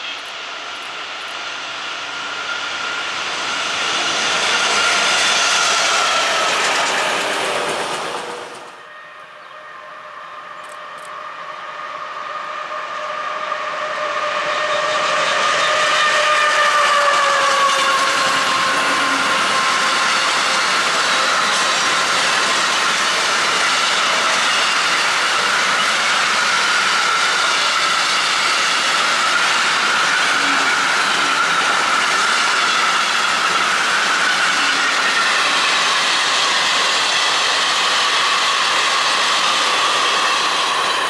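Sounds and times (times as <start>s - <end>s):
train wheels rattling on rails: 0.0s - 8.9s, 13.0s - 41.0s.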